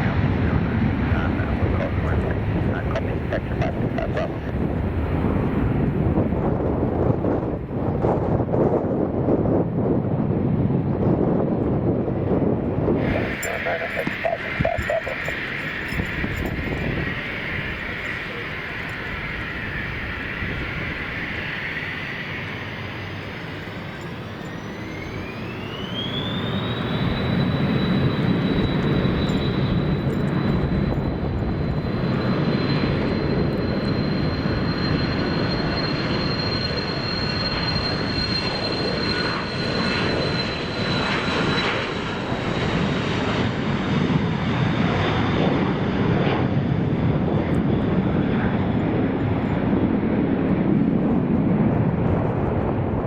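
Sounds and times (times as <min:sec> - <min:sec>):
jet engine whine: 0:00.0 - 0:53.0
jet roar: 0:00.0 - 0:53.0.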